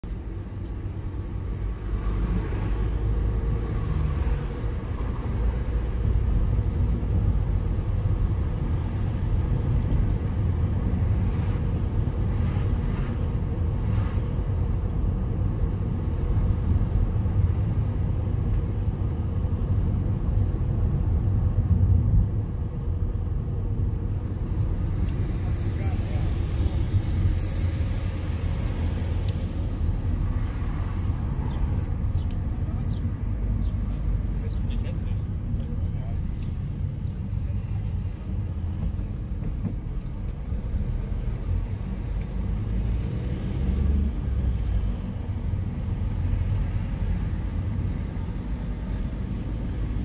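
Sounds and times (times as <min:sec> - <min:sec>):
car engine and tyre road noise: 0:00.0 - 0:50.0.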